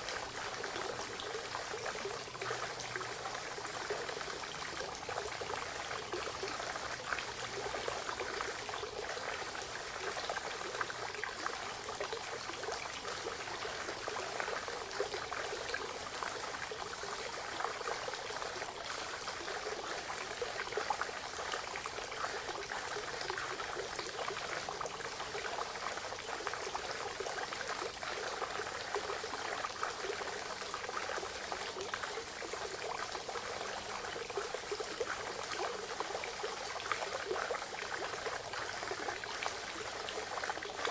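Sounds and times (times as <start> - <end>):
spring water trickling into pond: 0.0 - 40.9.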